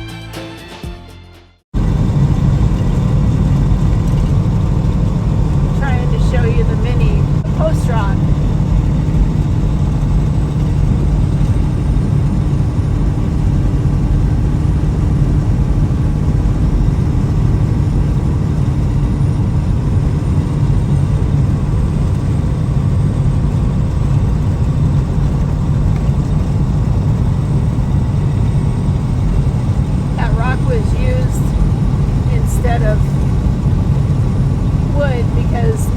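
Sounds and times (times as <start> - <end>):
faint steady hum: 1.8 - 35.9
vehicle engine and road rumble: 1.8 - 35.9.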